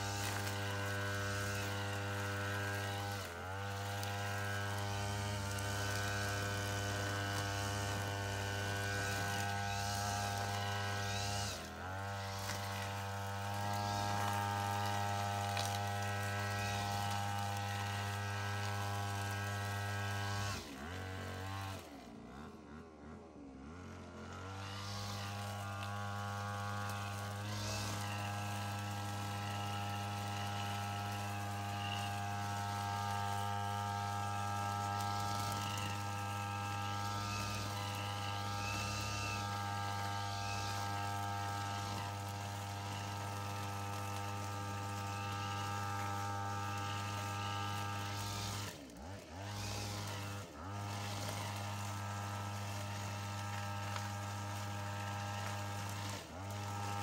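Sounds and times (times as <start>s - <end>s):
small motor running: 0.0s - 57.0s.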